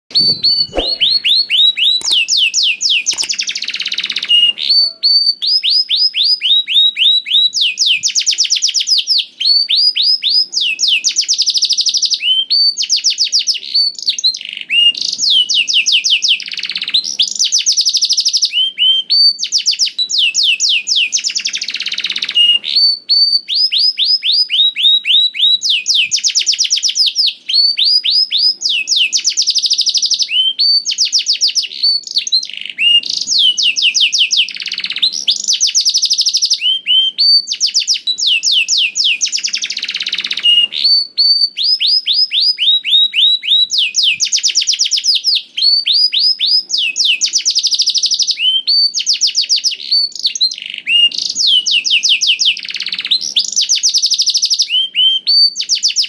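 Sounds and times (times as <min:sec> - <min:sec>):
canary singing trills: 0:00.1 - 0:56.0.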